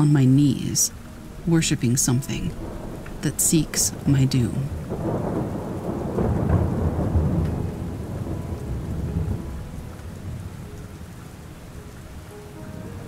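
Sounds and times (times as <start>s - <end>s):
steady rain: 0.0s - 13.0s
thunder rumble: 0.7s - 11.7s.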